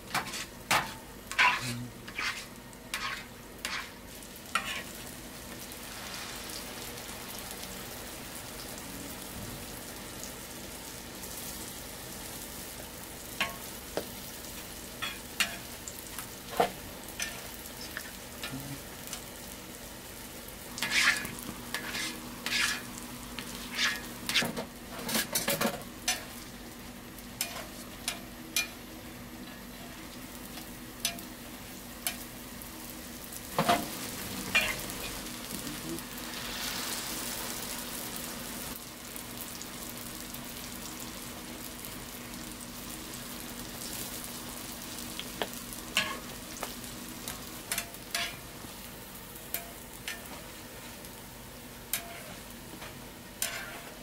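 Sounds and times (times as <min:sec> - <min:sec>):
pancakes sizzling in oil: 0:00.0 - 0:54.0.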